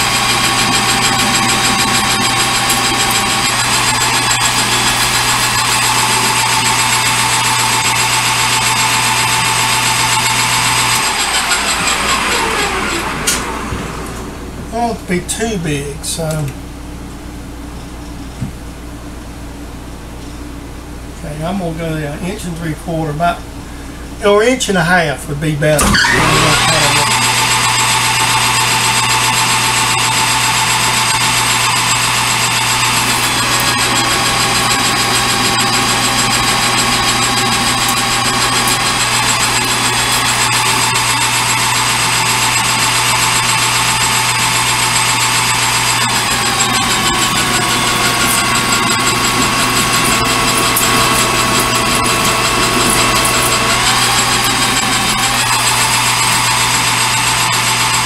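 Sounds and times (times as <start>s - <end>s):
metal lathe whine: 0.0s - 15.0s, 25.8s - 58.0s
motor hum: 0.0s - 21.9s, 25.8s - 58.0s.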